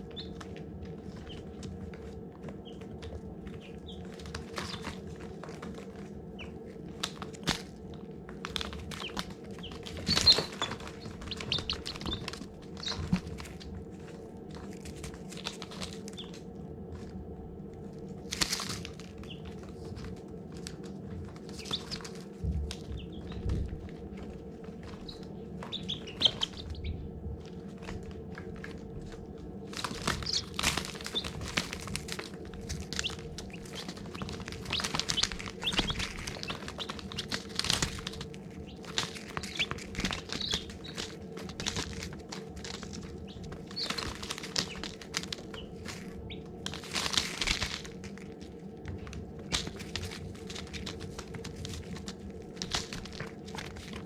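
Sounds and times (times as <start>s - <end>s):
baby chicks peeping: 0.0s - 54.0s
steady low hum: 0.0s - 54.0s.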